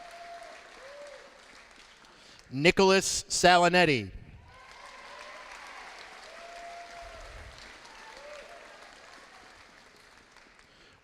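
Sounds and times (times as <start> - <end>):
audience applauding: 0.0 - 2.5, 4.5 - 11.0.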